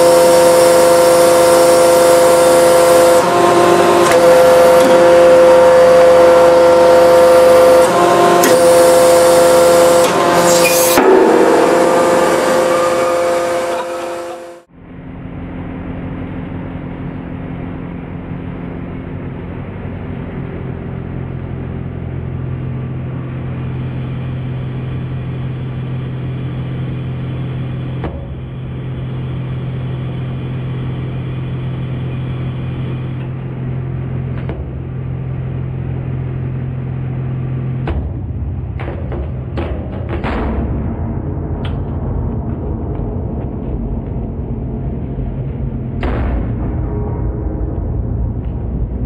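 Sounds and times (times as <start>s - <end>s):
hydraulic press humming: 0.0s - 40.6s.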